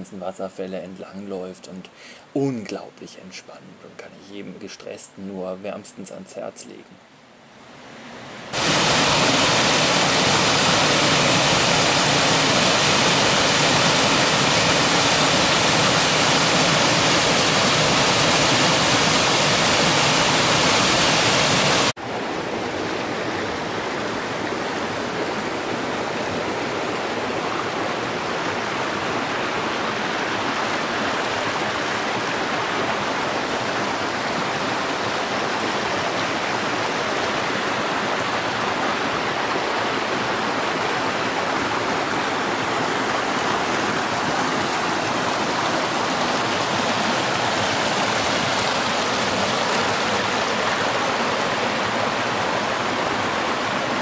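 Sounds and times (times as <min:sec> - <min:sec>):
stream rushing over rocks: 0:08.4 - 0:54.0.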